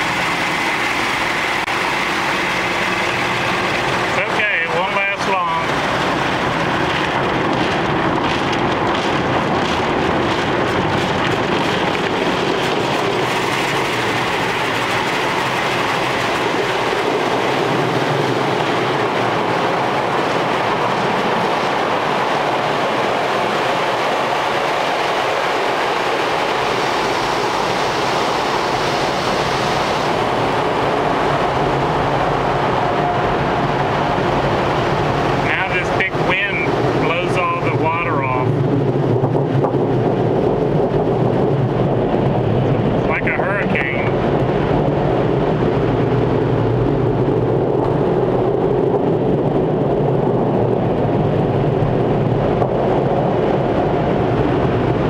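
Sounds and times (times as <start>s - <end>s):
car wash rushing and rumbling: 0.0s - 55.0s.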